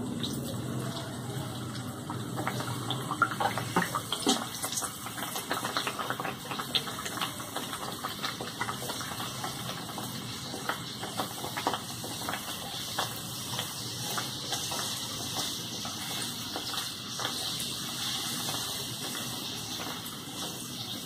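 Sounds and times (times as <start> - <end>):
deep-frying in hot oil: 0.0 - 21.0.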